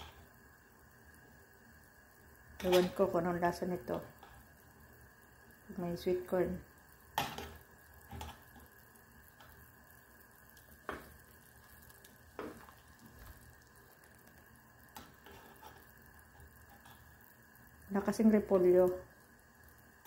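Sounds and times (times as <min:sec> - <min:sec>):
soup simmering: 0:00.0 - 0:20.0.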